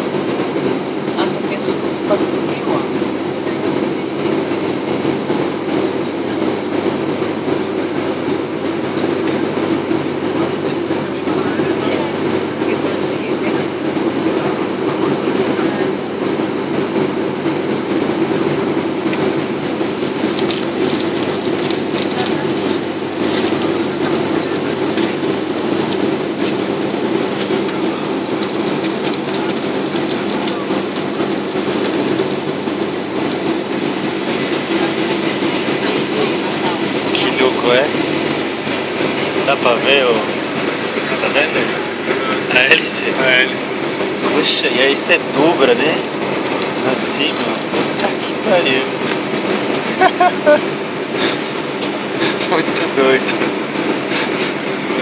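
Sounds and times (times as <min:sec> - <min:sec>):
high steady whine: 0:00.0 - 0:55.0
propeller engine drone in cabin: 0:00.0 - 0:55.0.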